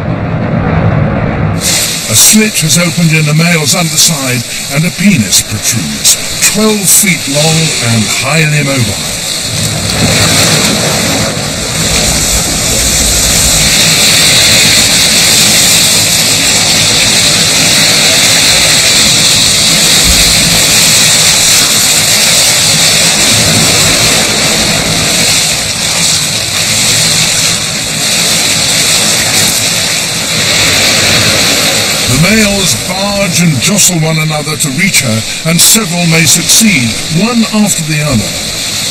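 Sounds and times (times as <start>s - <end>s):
seawater splashing: 1.4s - 38.9s.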